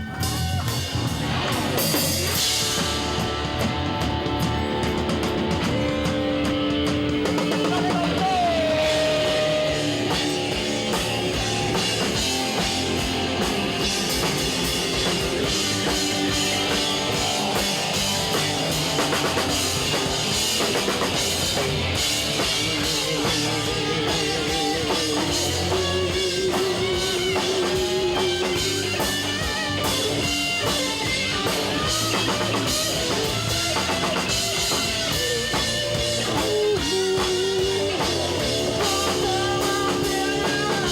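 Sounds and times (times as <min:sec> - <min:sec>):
drum kit: 0:00.0 - 0:40.9
electric guitars: 0:00.0 - 0:40.9
wavering lead guitar line: 0:00.0 - 0:40.9.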